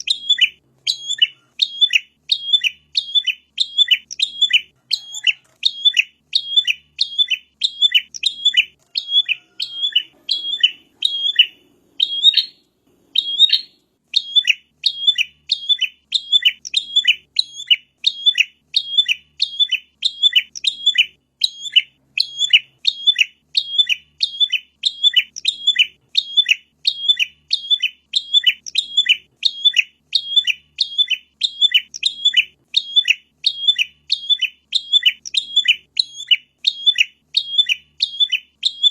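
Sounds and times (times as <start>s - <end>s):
bird sharp high chirps: 0.0s - 38.9s.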